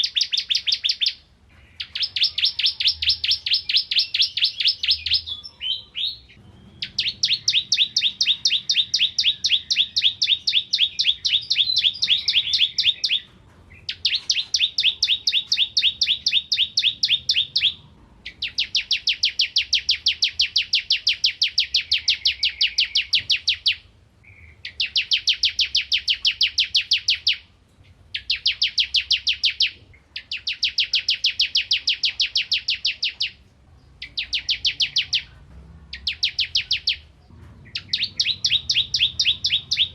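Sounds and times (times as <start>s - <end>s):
bird singing high chipping notes: 0.0s - 35.3s, 35.9s - 39.9s.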